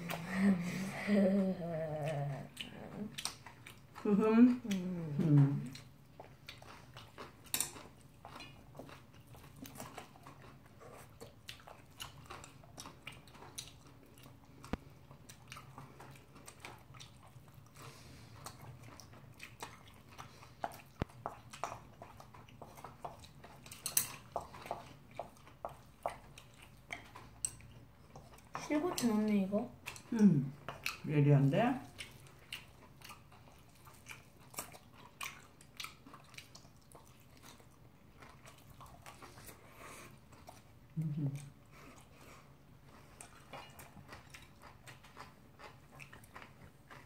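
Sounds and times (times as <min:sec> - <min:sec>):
chewing and eating sounds: 0:00.0 - 0:47.0.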